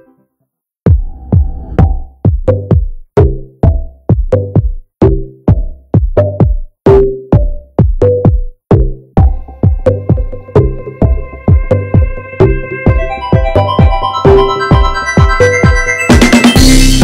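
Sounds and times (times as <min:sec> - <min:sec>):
electronic music with drum beat: 0:00.9 - 0:17.0.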